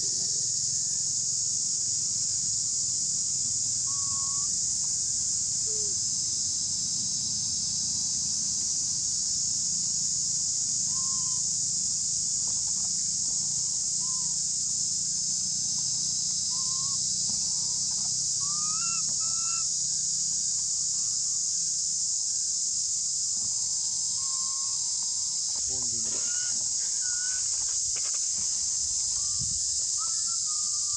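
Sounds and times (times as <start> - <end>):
insect chorus drone: 0.0 - 30.9
rising insect calls: 0.0 - 30.9.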